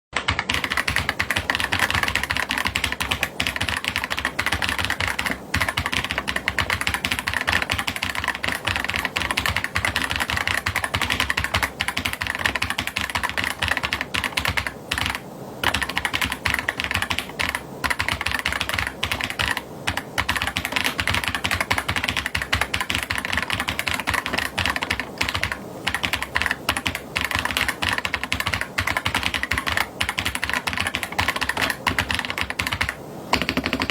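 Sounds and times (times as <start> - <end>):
fast typing on mechanical keyboard: 0.2 - 33.9.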